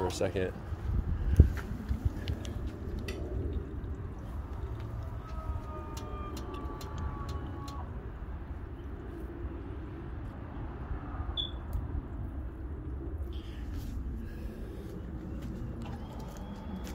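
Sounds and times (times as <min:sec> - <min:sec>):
low motor drone: 0:00.0 - 0:16.9.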